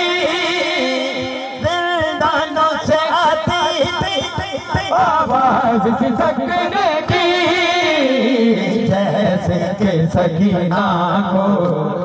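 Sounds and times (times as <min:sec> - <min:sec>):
man singing mournful lament: 0:00.0 - 0:12.0.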